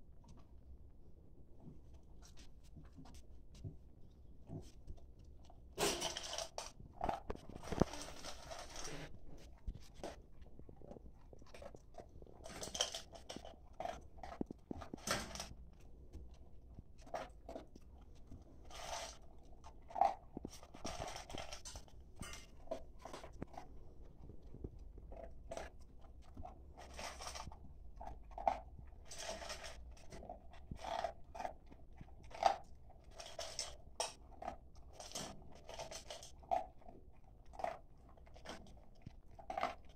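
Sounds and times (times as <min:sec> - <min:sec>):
dog crunching dry kibble: 0:01.6 - 0:39.9.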